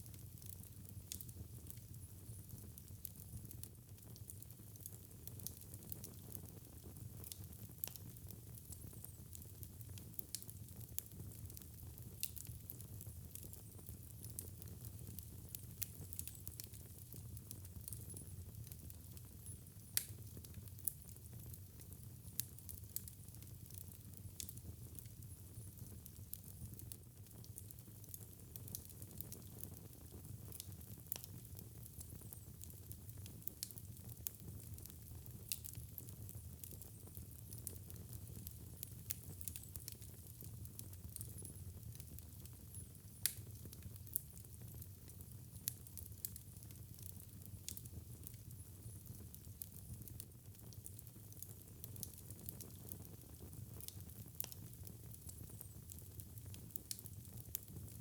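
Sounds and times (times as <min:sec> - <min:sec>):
low rumble of fire: 0:00.0 - 0:58.0
wood fire crackling and popping: 0:00.1 - 0:58.0.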